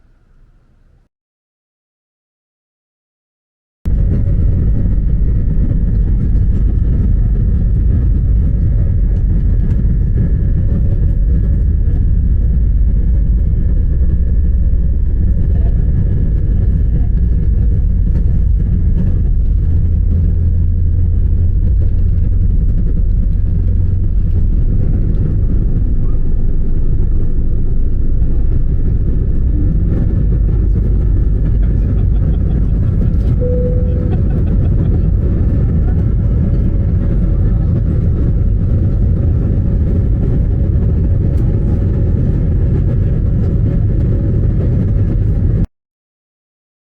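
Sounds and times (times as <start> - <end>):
faint engine whine: 0.0 - 1.1, 3.9 - 45.7
airliner engines rumbling: 3.9 - 45.7.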